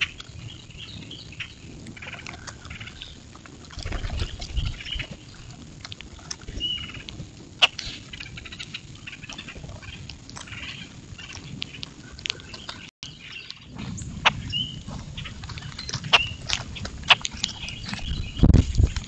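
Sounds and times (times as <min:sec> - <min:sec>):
grackles calling: 0:00.0 - 0:18.9.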